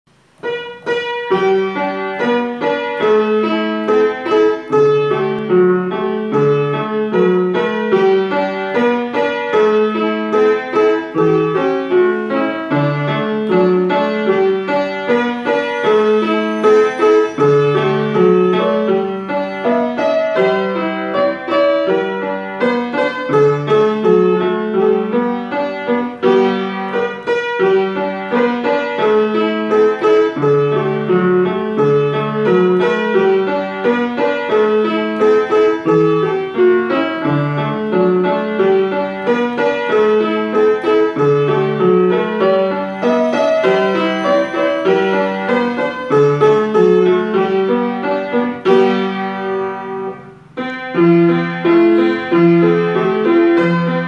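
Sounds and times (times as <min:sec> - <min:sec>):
piano tune with bass notes: 0:00.1 - 0:54.0.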